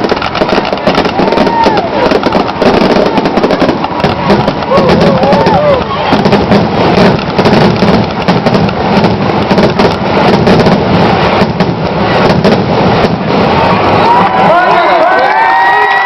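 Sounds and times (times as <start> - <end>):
fireworks booming and crackling: 0.0 - 16.0.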